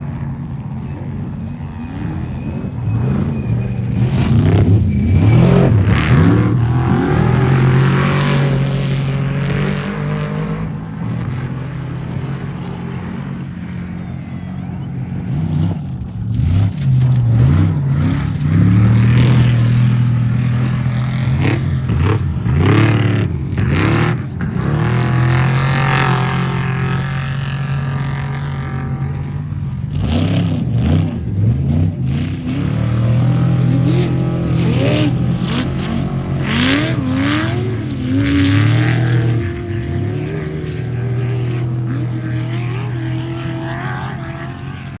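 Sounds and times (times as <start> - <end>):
race truck engine revving: 1.0 - 45.0.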